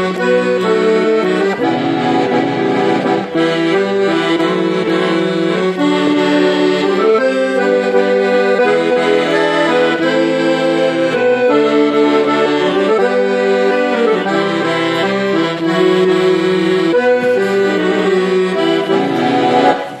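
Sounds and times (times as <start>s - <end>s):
button accordion playing melody: 0.0s - 20.0s.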